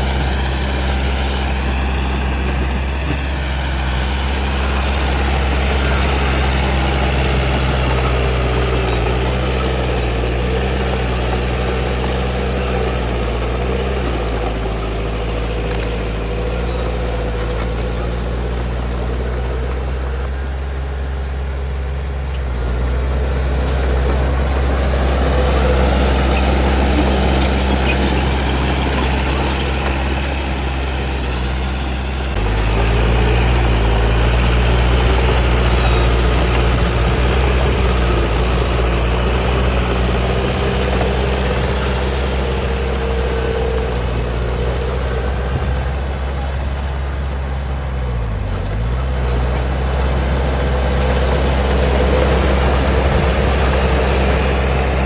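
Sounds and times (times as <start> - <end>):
diesel earthmoving machinery running: 0.0 - 55.0.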